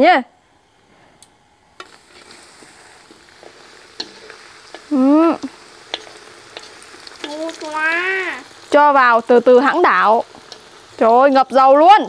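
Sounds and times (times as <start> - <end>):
oil crackling and popping: 1.8 - 12.0
potatoes sizzling in hot oil: 1.8 - 12.0.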